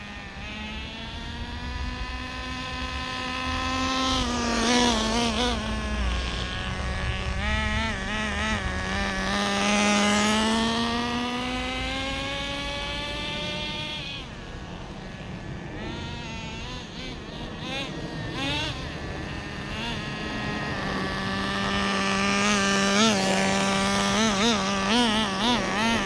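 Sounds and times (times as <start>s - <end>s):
small nitro engine buzzing: 0.0s - 26.0s.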